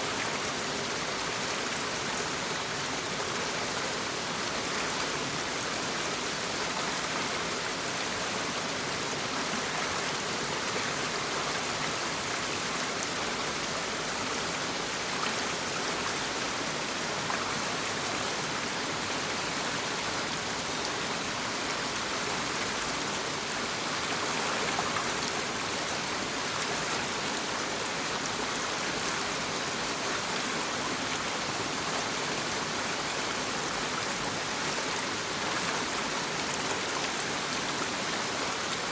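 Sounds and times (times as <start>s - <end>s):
brook babbling over stones: 0.0s - 38.9s.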